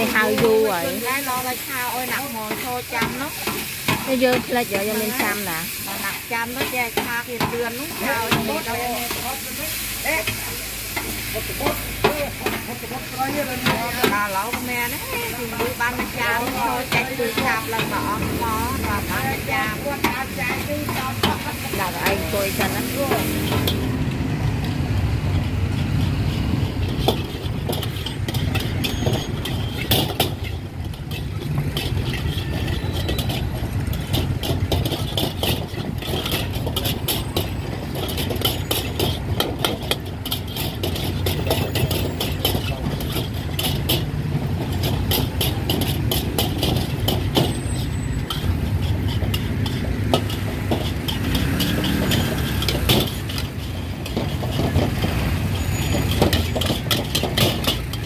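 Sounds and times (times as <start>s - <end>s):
spatula scraping a steel wok: 0.0s - 58.0s.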